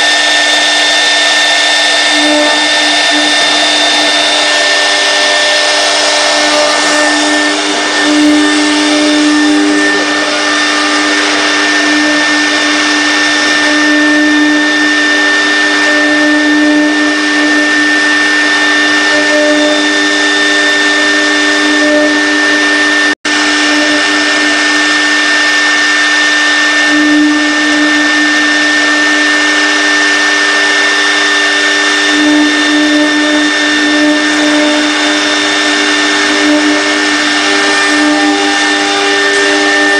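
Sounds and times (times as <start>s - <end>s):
cutter milling metal: 0.0s - 39.9s
router spindle whine: 0.0s - 39.9s.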